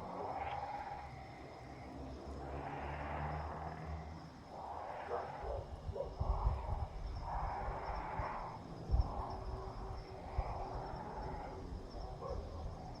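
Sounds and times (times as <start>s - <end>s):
soft hissing swells: 0.0s - 12.9s
crickets trilling: 0.0s - 13.0s
wind rumble on microphone: 0.0s - 13.0s.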